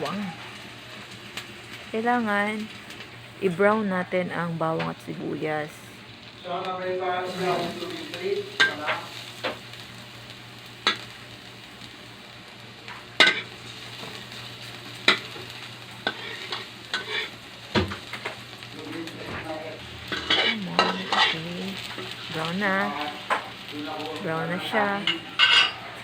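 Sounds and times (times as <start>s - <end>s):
onion and garlic sizzling in oil: 0.0s - 26.0s.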